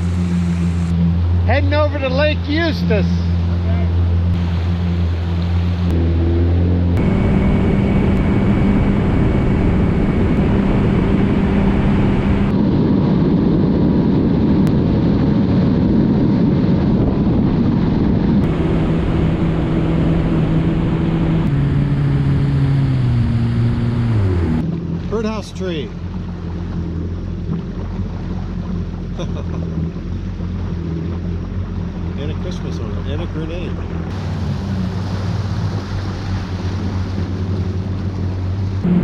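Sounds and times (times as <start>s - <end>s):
water rushing: 0.0s - 12.6s, 18.4s - 39.0s
watercraft engine running: 0.0s - 39.0s
wind: 0.0s - 39.0s.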